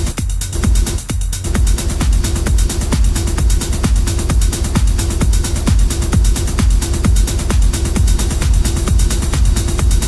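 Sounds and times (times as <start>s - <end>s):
techno music: 0.0s - 10.0s.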